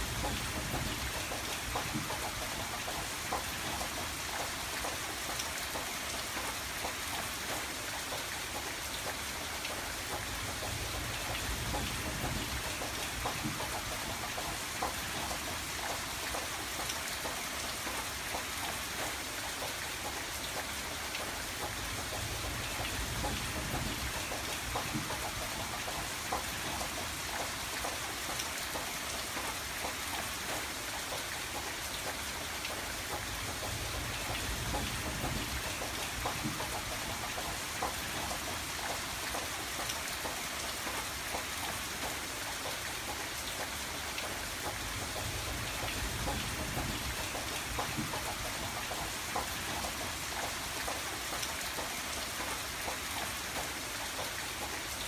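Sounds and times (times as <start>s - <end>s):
rain drops ticking on window: 0.0s - 55.0s.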